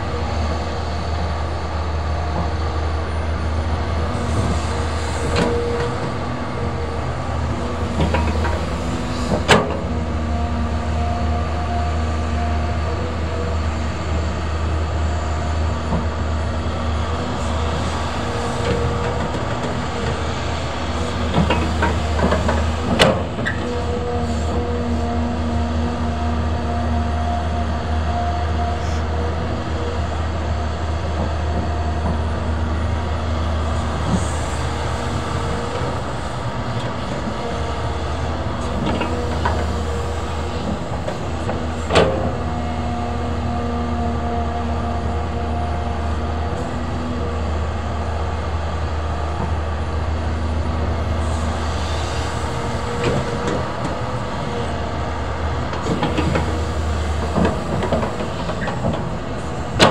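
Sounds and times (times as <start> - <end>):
excavator diesel engine drone: 0.0 - 59.9.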